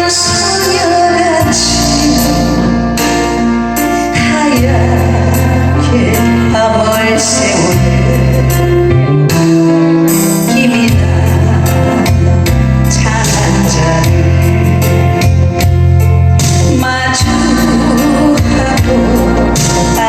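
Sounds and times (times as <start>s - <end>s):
ballad music with band: 0.0s - 20.0s.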